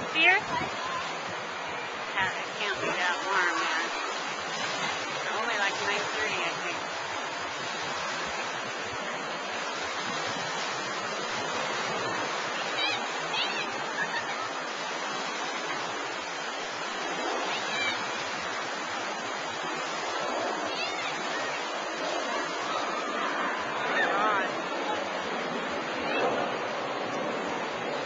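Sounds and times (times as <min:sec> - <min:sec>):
water lapping in pool: 0:00.0 - 0:28.0.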